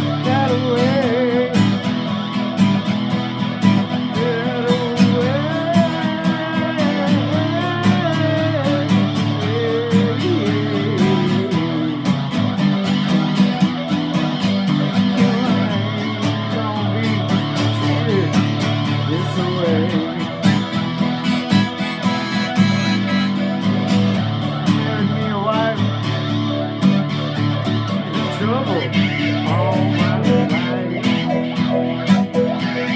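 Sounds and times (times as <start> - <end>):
electric guitar with wah-wah: 0.0 - 32.9.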